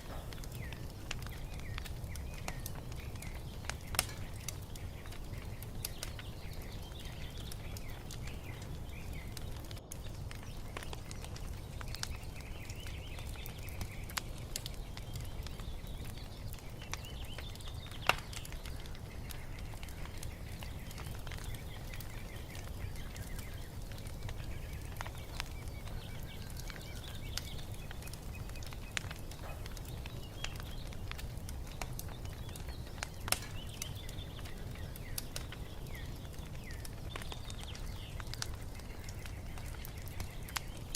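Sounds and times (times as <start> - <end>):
birds chirping: 0.0 - 40.9
wood fire crackling: 0.0 - 40.9.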